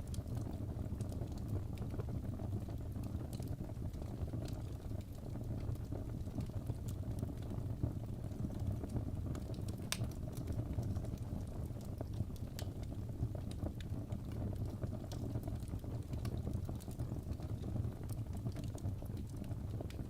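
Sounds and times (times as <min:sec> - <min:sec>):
fire pops and snaps: 0:00.0 - 0:20.0
low fire rumble: 0:00.0 - 0:20.0
wood fire crackling: 0:00.0 - 0:20.0.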